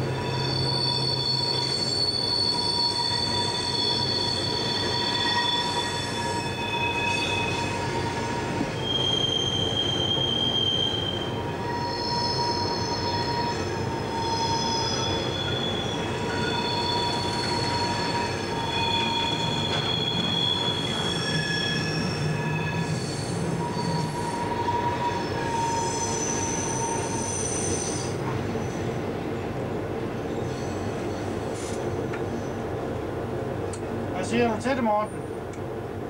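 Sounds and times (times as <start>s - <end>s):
railway wheels squealing: 0.0s - 29.1s, 30.2s - 32.6s.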